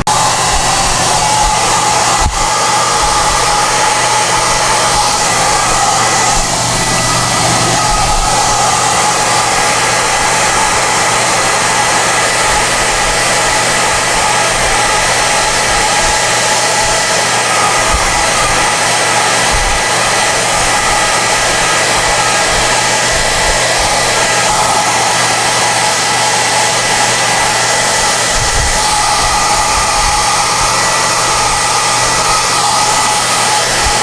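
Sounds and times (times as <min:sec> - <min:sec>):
hair dryer air rushing: 0:00.0 - 0:34.0.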